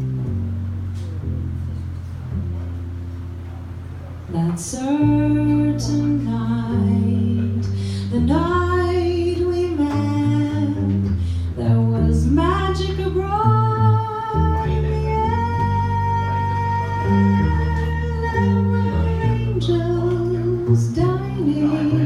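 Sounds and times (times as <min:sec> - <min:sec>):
bass: 0:00.0 - 0:22.0
jazz ballad melody: 0:00.0 - 0:22.0.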